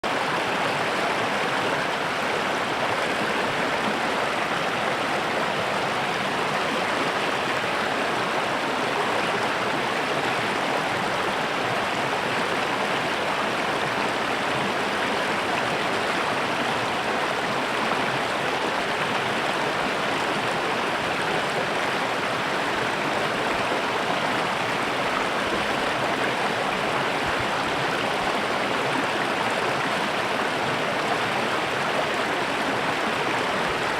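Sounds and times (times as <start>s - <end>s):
stream flowing over rocks: 0.0s - 33.9s.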